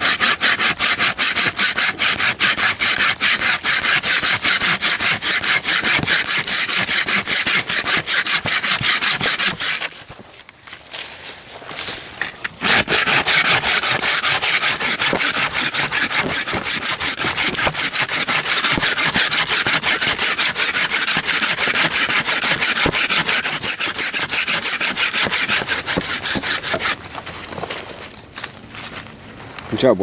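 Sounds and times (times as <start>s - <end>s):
hand saw cutting wood: 0.0s - 10.2s, 12.5s - 27.2s.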